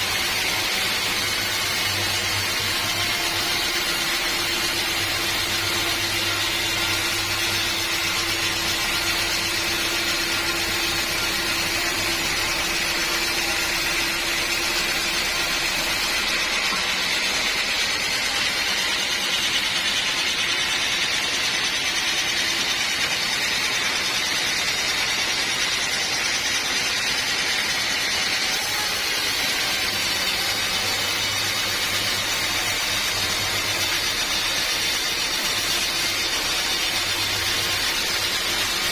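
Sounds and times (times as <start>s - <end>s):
sawmill machinery whine and hiss: 0.0s - 38.9s.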